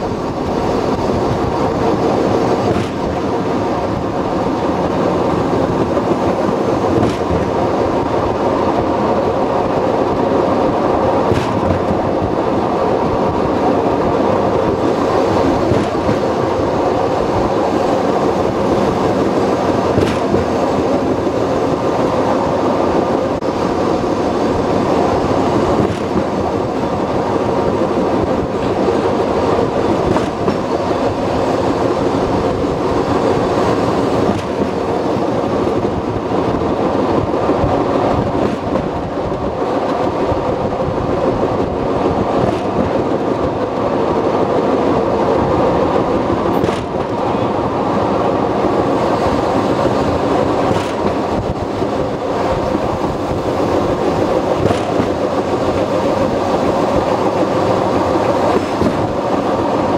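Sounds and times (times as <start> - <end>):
clack over rail joints: 0.0 - 59.9
trolley wheels rumbling on track: 0.0 - 59.9.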